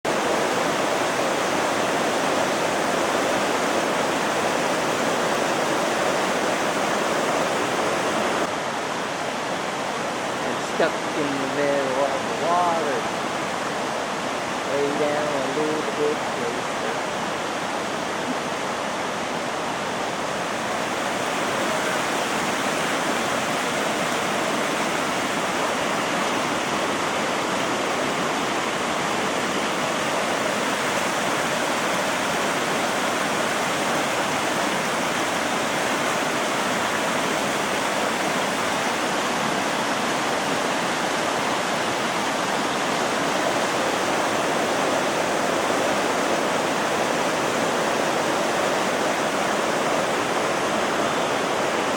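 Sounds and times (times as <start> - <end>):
floodwater rushing down creek: 0.0 - 51.9.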